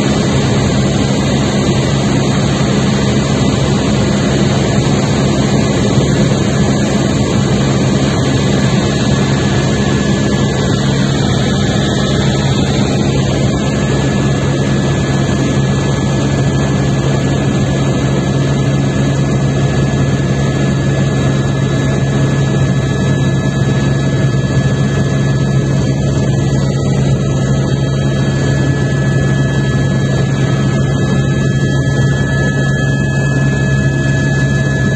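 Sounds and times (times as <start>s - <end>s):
helicopter in flight: 0.0s - 34.9s
high whine: 0.0s - 34.9s.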